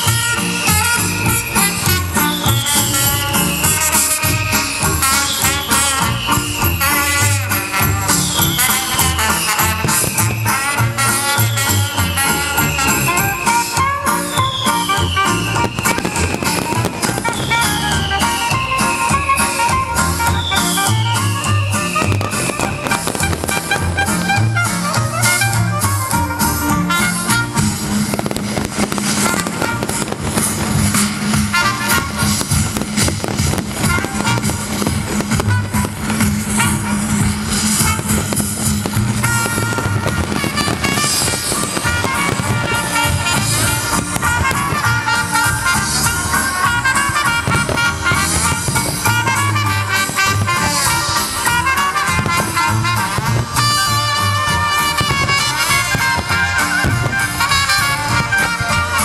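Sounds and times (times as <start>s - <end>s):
sharp firework cracks and pops: 0.0s - 19.7s, 20.3s - 59.0s
fireworks launching and bursting: 0.0s - 59.0s
loud music playing: 0.0s - 59.0s.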